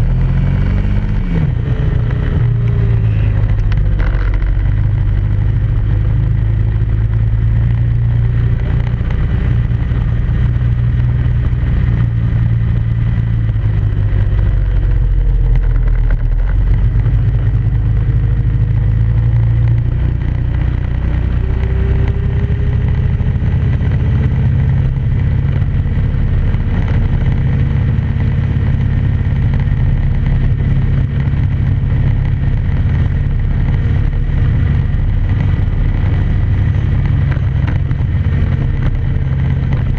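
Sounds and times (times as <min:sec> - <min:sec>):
atv engine drone: 0:00.0 - 0:39.9.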